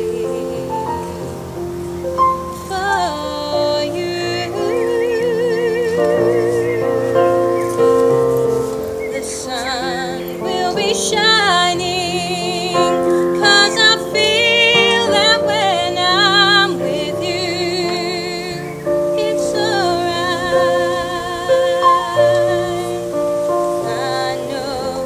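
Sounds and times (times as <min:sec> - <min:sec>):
instrumental accompaniment: 0:00.0 - 0:25.0
woman singing a ballad: 0:00.0 - 0:25.0.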